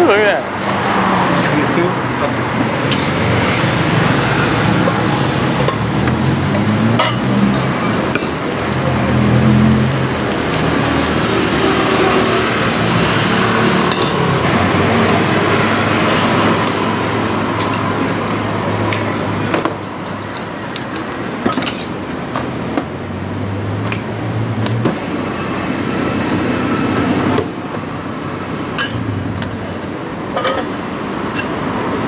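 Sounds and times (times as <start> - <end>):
street traffic: 0.0 - 32.0.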